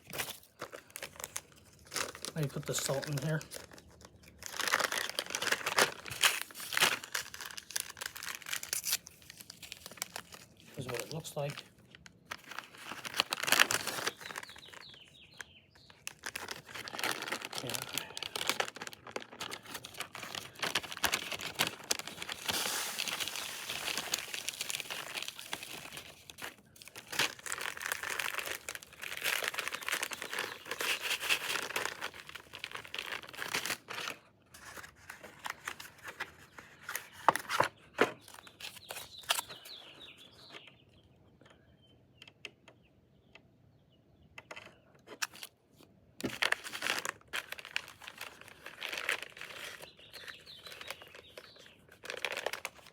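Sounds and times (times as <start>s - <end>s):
plastic wrappers crinkling: 0.0s - 40.2s, 45.1s - 45.6s, 46.2s - 52.9s.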